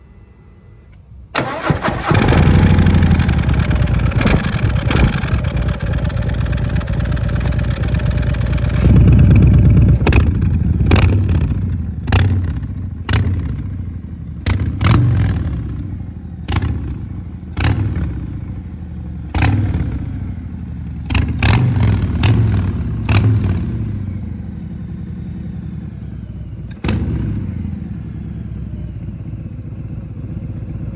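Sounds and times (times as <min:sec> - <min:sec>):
motorcycle throttle blips: 0:00.9 - 0:30.9
motorcycle engine idling: 0:01.4 - 0:30.9.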